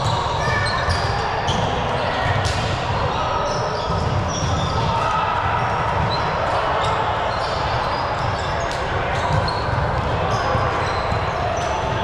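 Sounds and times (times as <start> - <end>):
shoes squeaking on court floor: 0.0 - 4.9, 6.0 - 12.0.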